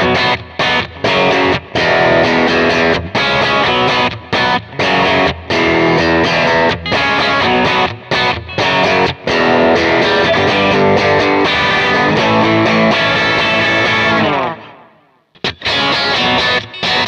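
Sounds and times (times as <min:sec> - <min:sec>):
overdriven electric guitar chords: 0:00.0 - 0:17.0.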